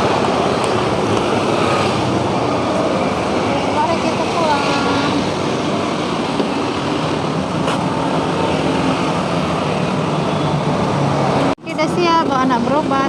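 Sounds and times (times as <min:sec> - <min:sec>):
vehicle in motion rush: 0:00.0 - 0:13.0.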